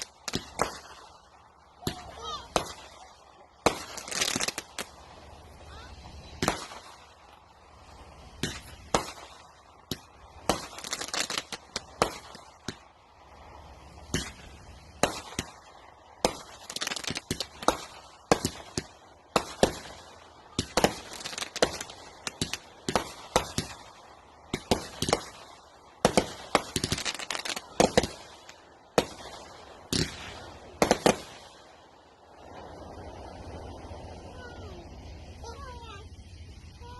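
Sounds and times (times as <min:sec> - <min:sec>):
fireworks bangs: 0:00.0 - 0:36.9.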